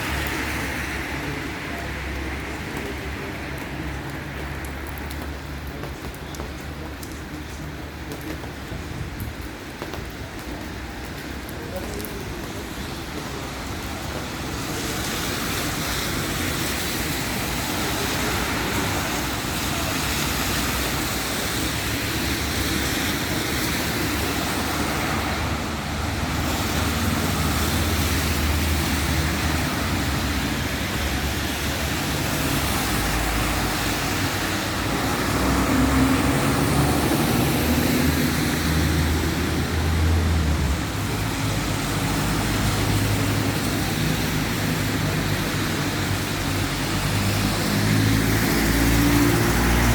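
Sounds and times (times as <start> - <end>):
low traffic rumble: 0.0 - 49.9.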